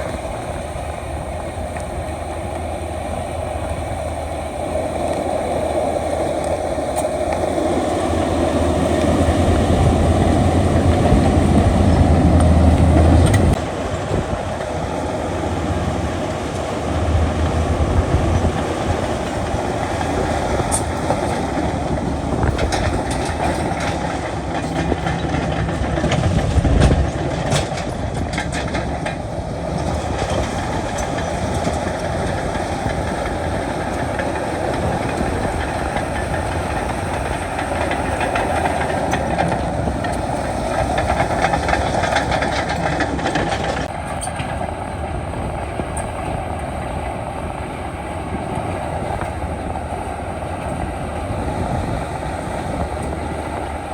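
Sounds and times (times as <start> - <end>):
heavy diesel machinery running: 0.0 - 53.9
metallic track clanking: 0.0 - 53.9.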